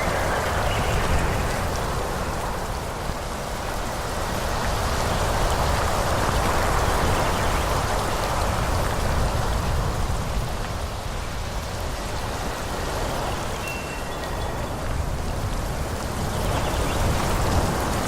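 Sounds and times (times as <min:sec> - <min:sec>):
wind rushing through trees: 0:00.0 - 0:18.0.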